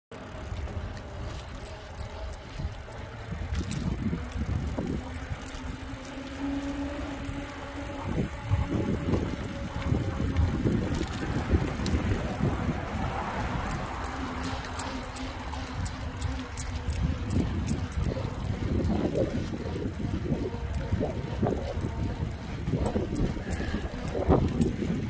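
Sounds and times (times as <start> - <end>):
bicycle clicks and rattles: 0.1 - 25.0
tyres rolling on concrete: 0.1 - 25.0
wind buffeting microphone: 0.2 - 25.0.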